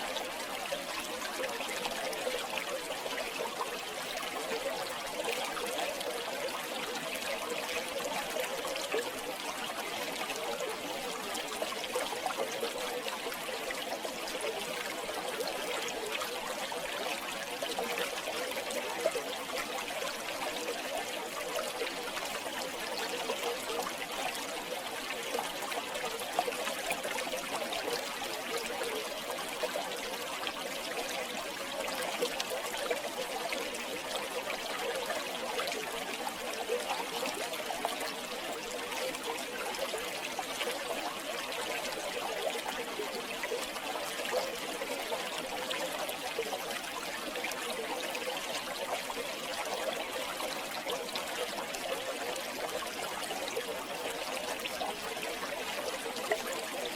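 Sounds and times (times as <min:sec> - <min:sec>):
river water trickling: 0:00.0 - 0:56.9.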